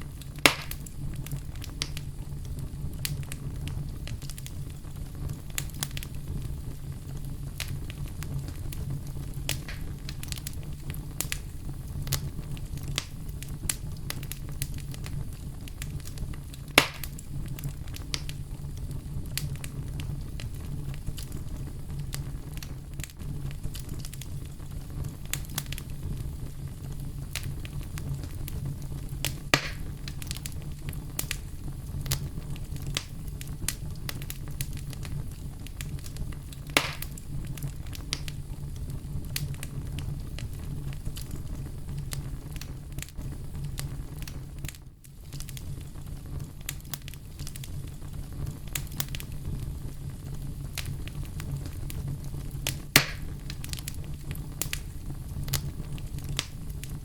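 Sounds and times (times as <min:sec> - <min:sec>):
campfire flames rumbling: 0:00.0 - 0:57.0
fire crackling: 0:00.0 - 0:57.0
loud fire pops: 0:00.0 - 0:57.0.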